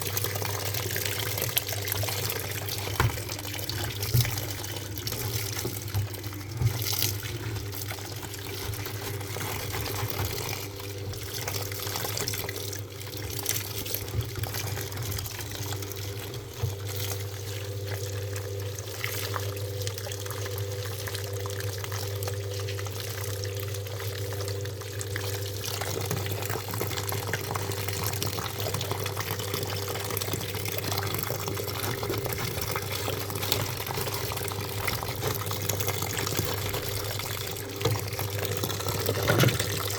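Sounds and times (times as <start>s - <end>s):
water splashing into washing machine: 0.0s - 39.9s.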